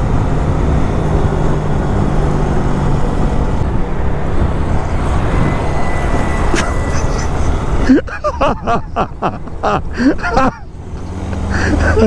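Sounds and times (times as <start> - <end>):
low hum: 0.0 - 10.9
vehicle engine running: 0.0 - 12.0
wind and road noise: 0.0 - 12.0.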